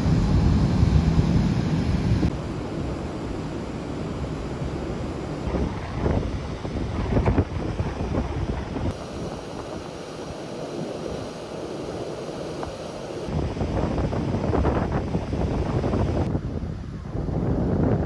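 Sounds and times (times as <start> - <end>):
sea rushing: 0.0 - 16.0
wind buffeting microphone: 0.0 - 18.0.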